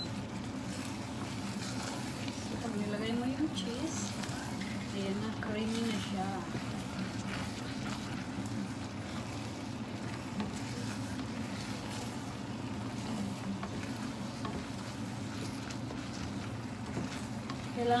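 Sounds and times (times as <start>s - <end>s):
steady low hum: 0.0s - 18.0s
wooden spoon scraping pot: 0.3s - 18.0s.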